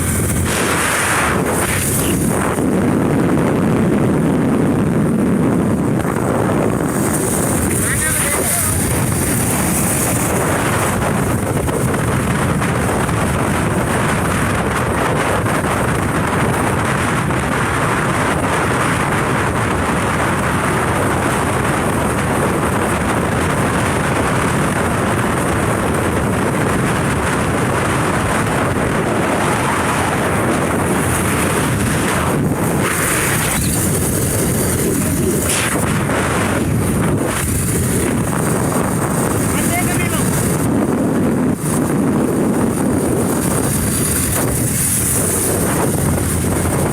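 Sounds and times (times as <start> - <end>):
motorbike road and engine noise: 0.0 - 46.9
wind rushing on microphone: 0.0 - 46.9.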